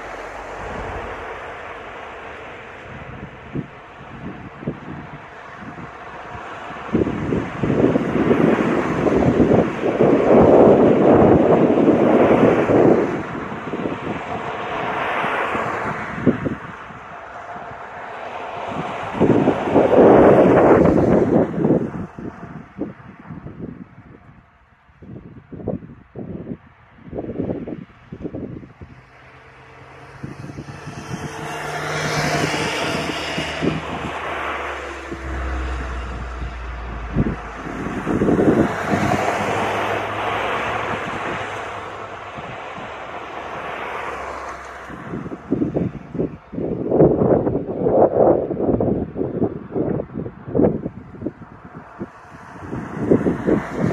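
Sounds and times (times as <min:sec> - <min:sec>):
distant jet engines rushing: 0:00.0 - 0:24.4, 0:27.0 - 0:53.9
wind on microphone: 0:00.0 - 0:53.9.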